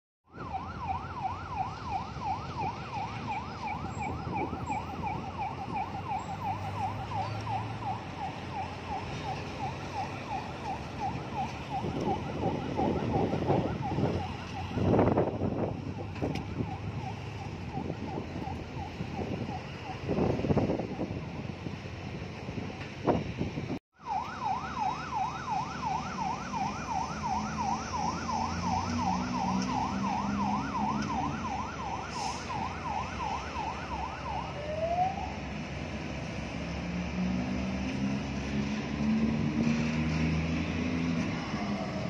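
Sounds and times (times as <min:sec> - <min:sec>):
vehicle siren yelping: 0:00.3 - 0:21.6, 0:24.0 - 0:42.0
heavy truck road noise: 0:00.3 - 0:42.0.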